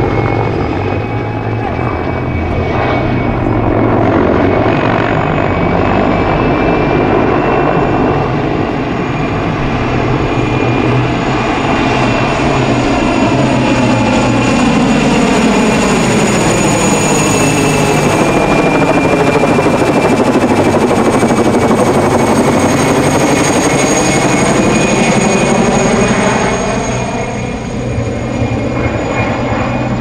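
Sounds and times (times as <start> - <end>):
helicopter rotor beat: 0.0 - 30.0
turbine engine whine: 0.0 - 30.0.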